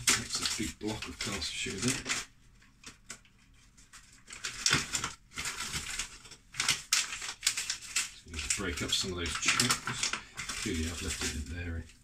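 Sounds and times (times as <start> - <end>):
paper bag of sugar rustling: 0.0 - 2.3, 3.5 - 12.0.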